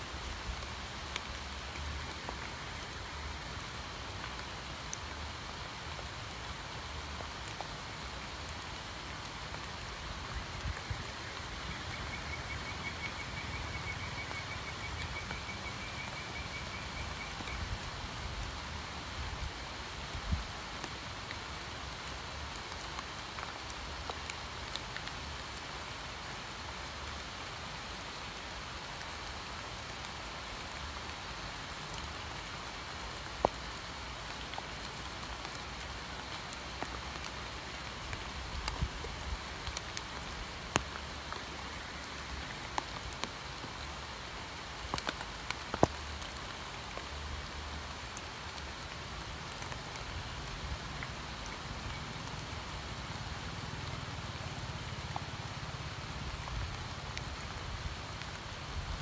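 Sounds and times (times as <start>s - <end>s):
rain falling on pond and leaves: 0.0s - 59.0s.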